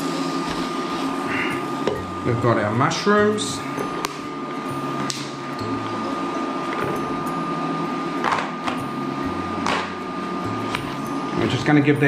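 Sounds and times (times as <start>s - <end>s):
steady hum: 0.0s - 12.0s
thin high whine: 0.0s - 12.0s.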